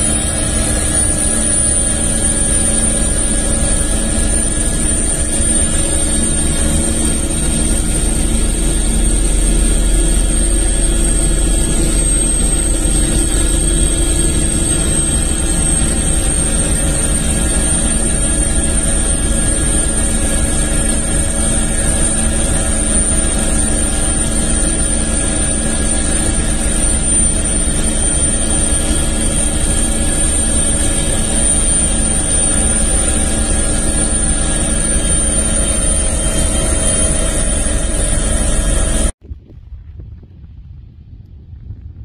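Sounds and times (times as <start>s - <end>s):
helicopter engine and rotor drone: 0.0s - 39.2s
high turbine whine: 0.0s - 42.0s.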